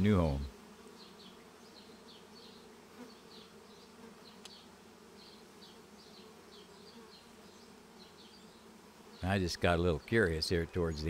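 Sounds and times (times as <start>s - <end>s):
honeybee swarm buzzing: 0.0s - 10.9s.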